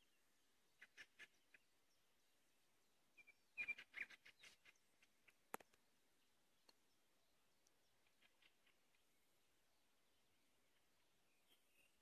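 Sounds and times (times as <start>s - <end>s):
songbird chirps: 0.0s - 12.0s.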